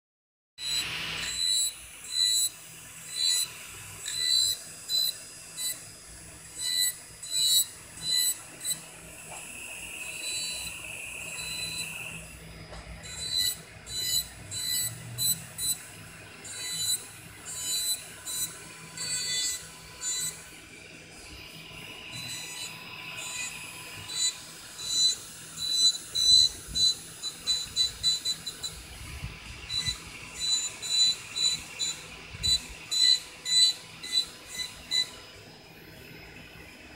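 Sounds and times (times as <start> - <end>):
drill grinding nail polish: 0.6 - 35.4
nail drill high whine: 0.6 - 35.4.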